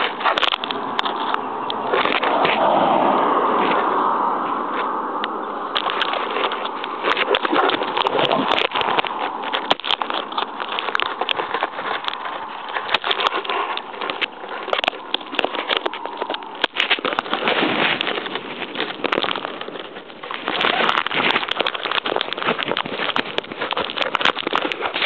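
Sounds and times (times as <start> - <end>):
sharp clicks and knocks: 0.0 - 2.6, 4.7 - 25.0
inline skate wheels rolling on asphalt: 0.0 - 25.0.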